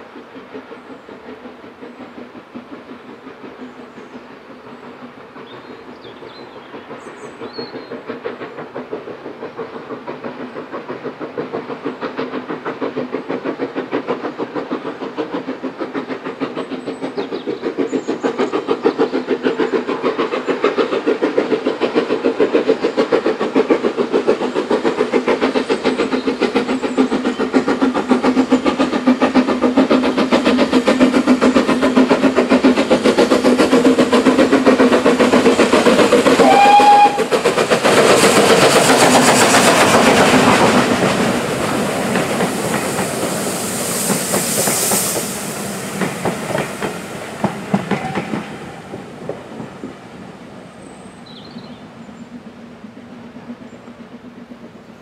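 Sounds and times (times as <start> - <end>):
steam locomotive exhaust chuffing: 0.0 - 55.0.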